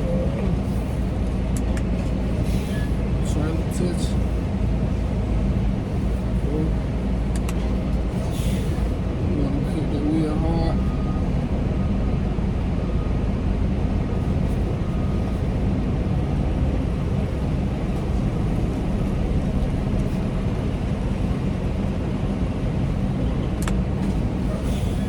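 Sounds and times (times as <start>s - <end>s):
diesel truck engine rumble: 0.0s - 25.0s.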